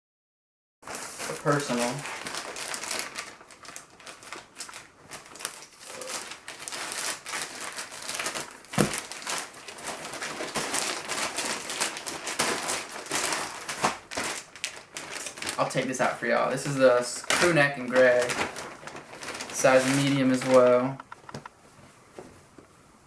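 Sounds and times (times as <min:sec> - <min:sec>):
packaging crinkling and rustling: 0:00.8 - 0:21.5.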